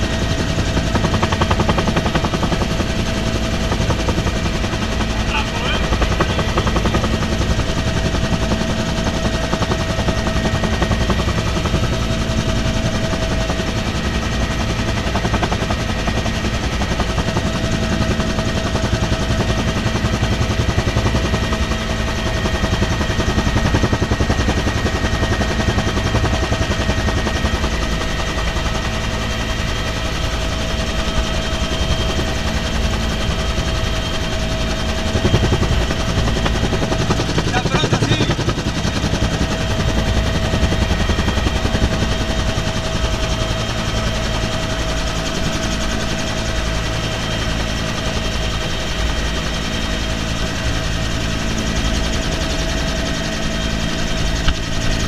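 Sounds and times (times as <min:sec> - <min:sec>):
helicopter rotor beating: 0:00.0 - 0:55.0.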